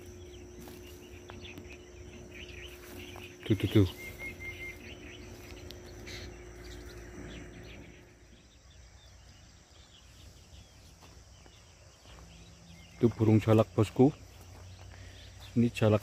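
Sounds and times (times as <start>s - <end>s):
birds chirping and calling: 0.0s - 16.0s
faint steady hum: 0.0s - 16.0s.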